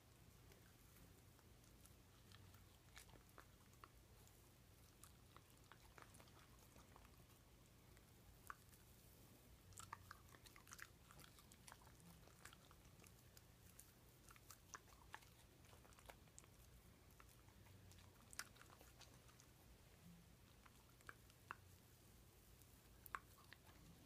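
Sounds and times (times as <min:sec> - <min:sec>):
dog chewing and smacking: 0:00.0 - 0:24.0.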